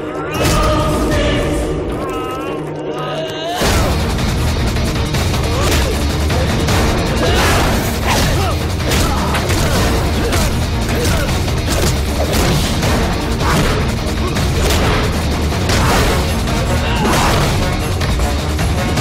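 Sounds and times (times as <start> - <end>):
loud action film music: 0.0 - 19.0.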